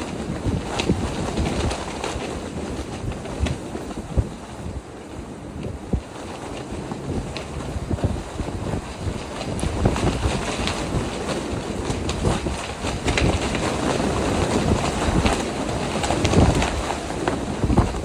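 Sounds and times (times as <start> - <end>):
sharp flapping snaps: 0.0 - 4.8, 5.6 - 18.0
gusting wind buffeting microphone: 0.0 - 18.0.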